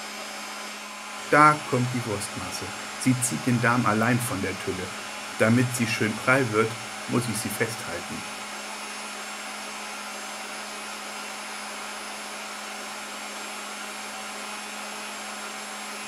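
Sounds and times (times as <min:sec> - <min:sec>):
electric meat grinder humming: 0:00.0 - 0:16.0.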